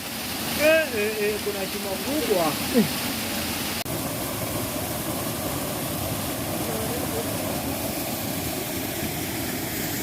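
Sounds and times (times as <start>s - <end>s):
small waterfall rushing: 0.0s - 10.0s.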